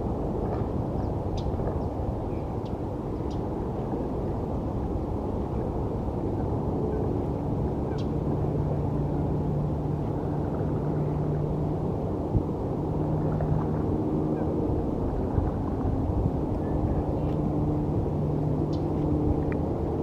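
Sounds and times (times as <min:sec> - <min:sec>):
distant city traffic drone: 0:00.0 - 0:20.0.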